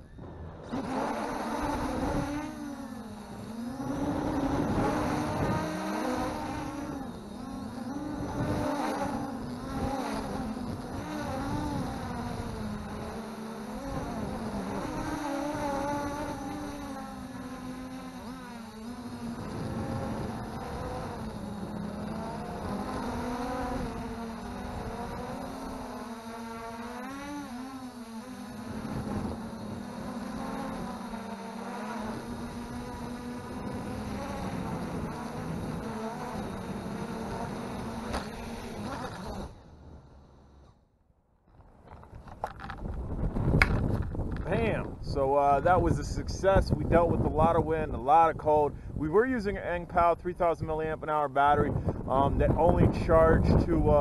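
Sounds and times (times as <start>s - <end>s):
wind noise on microphone: 0.0s - 26.0s, 28.5s - 31.1s, 32.1s - 39.6s, 41.6s - 54.0s
drone propellers buzzing: 0.0s - 41.0s, 41.6s - 54.0s.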